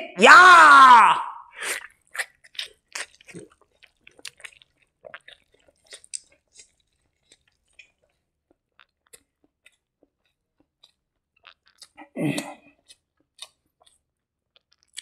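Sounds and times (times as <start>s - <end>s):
person chewing food: 1.6s - 15.0s
wet mouth clicks: 1.6s - 15.0s.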